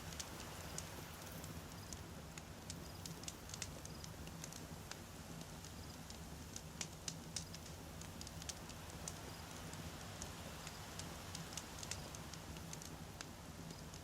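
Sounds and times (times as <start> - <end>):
wood campfire crackling: 0.0 - 14.0.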